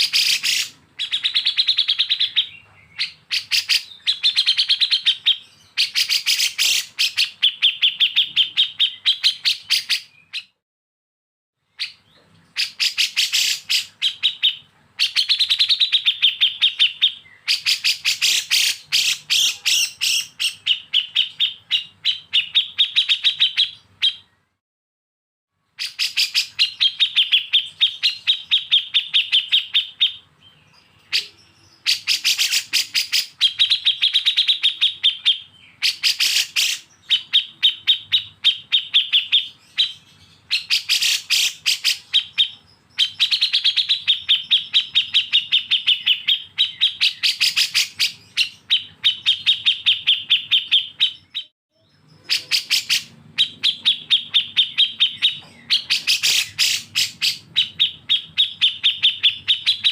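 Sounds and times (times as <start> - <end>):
songbird harsh chattering: 0.0 - 10.1, 12.6 - 24.2, 31.1 - 59.9.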